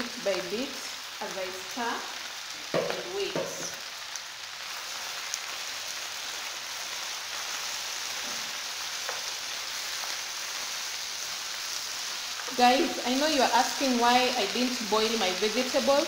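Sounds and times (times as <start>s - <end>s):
spinach sizzling in oil: 0.0s - 16.0s.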